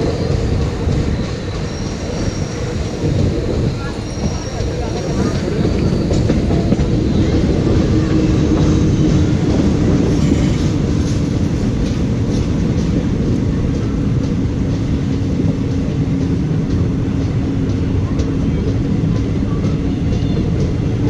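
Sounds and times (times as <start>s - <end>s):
rail joint clicks: 0.0s - 21.0s
train wheels rumbling on rails: 0.0s - 21.0s.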